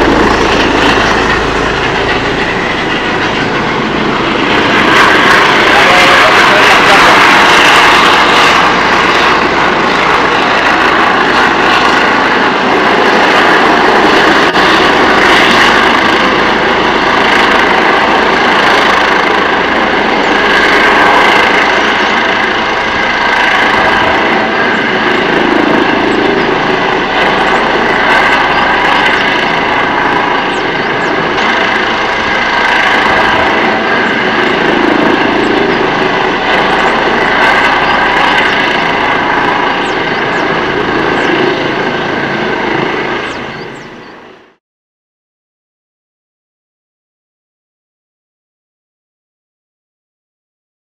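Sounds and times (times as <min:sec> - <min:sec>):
helicopter turbine whine and rotor: 0:00.0 - 0:44.6.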